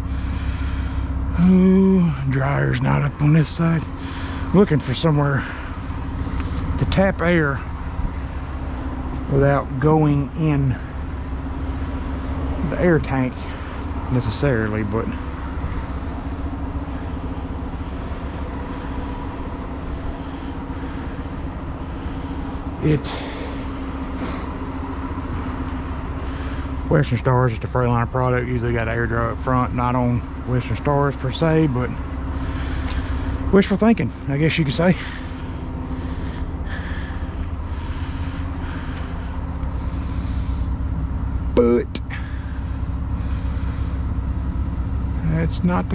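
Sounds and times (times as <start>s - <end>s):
truck diesel engine idling: 0.0s - 45.9s.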